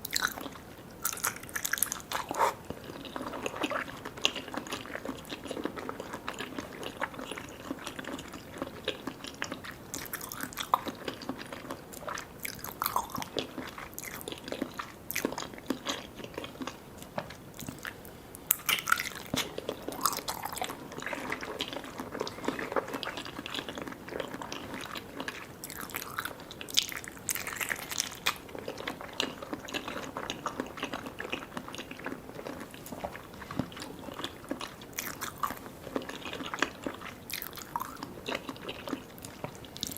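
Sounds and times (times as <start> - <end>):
chewing with sticky mouth sounds: 0.0 - 39.9.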